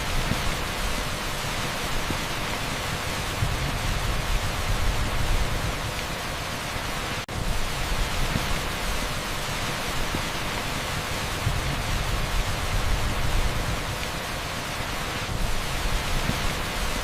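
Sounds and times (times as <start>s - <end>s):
heavy rain on asphalt: 0.0s - 17.0s.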